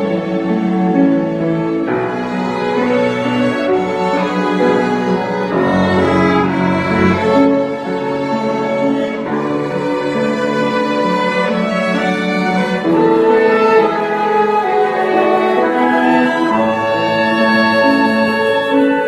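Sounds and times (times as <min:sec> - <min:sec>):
chamber ensemble playing: 0:00.0 - 0:19.0.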